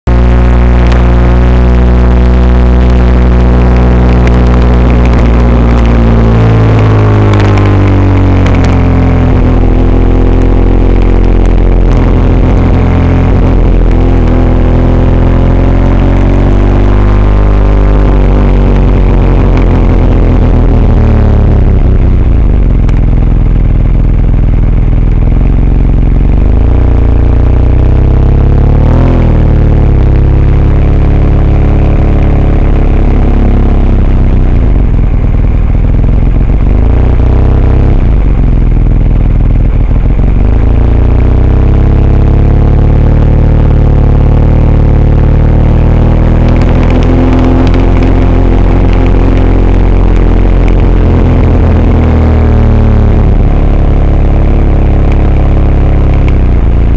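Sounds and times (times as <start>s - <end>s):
road noise rumble: 0.0s - 56.9s
vehicle engine revving: 0.0s - 56.9s.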